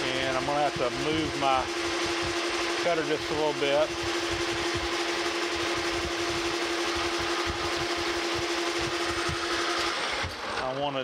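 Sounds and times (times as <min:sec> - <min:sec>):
mechanical hum and hiss: 0:00.0 - 0:11.0
metal lathe whining: 0:00.0 - 0:11.0.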